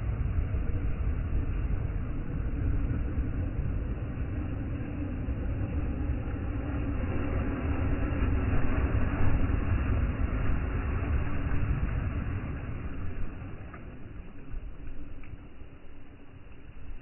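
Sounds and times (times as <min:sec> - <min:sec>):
low rumble of wind: 0:00.0 - 0:17.0
waves washing on sandy shore: 0:00.4 - 0:17.0.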